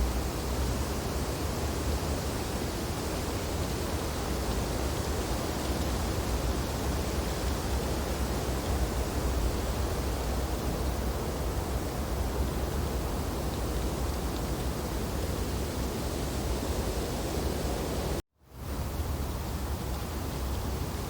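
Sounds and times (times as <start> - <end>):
wind through tree branches: 0.0 - 21.0.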